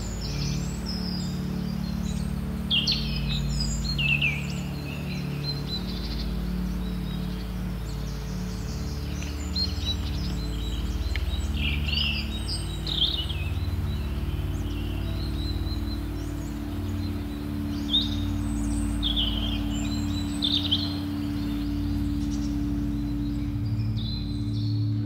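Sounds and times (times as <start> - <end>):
low hum of held tones: 0.0 - 25.0
small birds chirping: 0.0 - 25.0.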